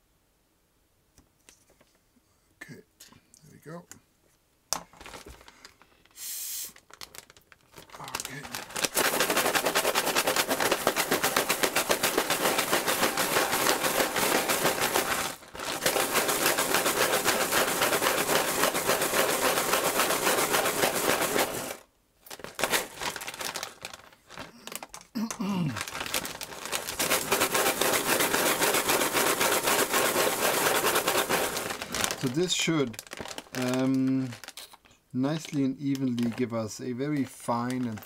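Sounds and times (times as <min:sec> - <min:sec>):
plastic stems rattling in a bag: 0:04.9 - 0:05.9, 0:06.8 - 0:38.0
plastic bag crinkle: 0:04.9 - 0:38.0.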